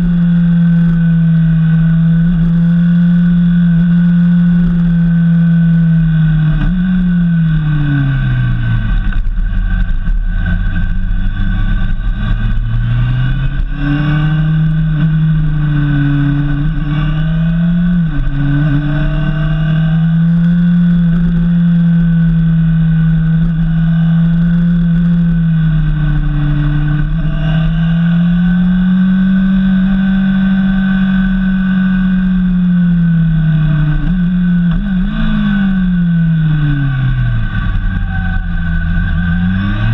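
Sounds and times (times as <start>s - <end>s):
low wind rumble: 0.0s - 39.9s
motorcycle engine running: 0.0s - 39.9s.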